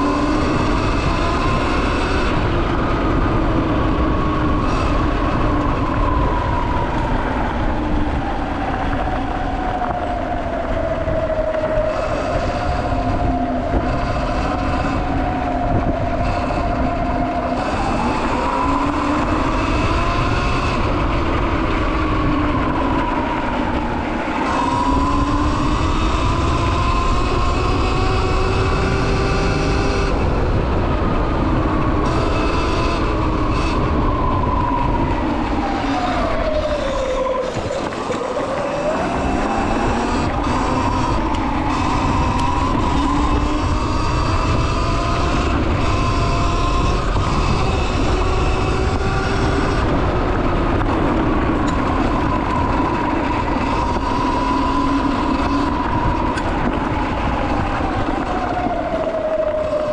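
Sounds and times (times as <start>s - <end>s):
electric motor whine: 0.0s - 59.9s
wind and tyres on gravel: 0.0s - 59.9s.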